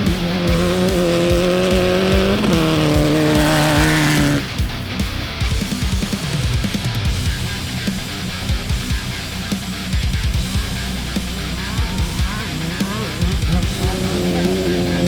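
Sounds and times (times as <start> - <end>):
heavy metal music with drums: 0.0 - 15.0
race car engine revving: 0.0 - 15.0.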